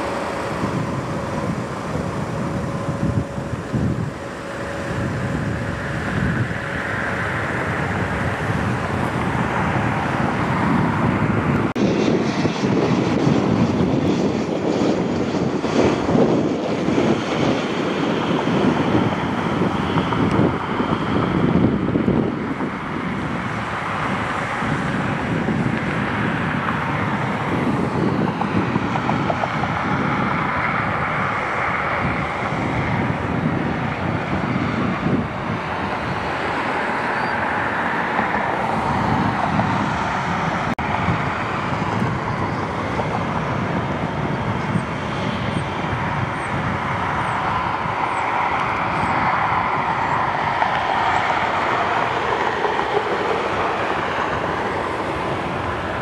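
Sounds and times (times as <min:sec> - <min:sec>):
jet engines rushing and whining: 0:00.0 - 0:56.0
wind gusting on microphone: 0:00.0 - 0:56.0.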